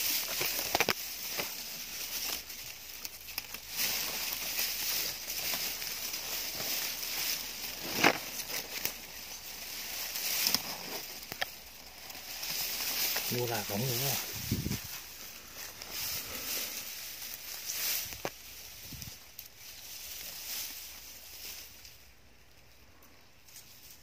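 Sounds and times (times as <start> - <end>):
grass stalks snapping: 0.0 - 22.6
dry grass rustling: 0.0 - 24.0.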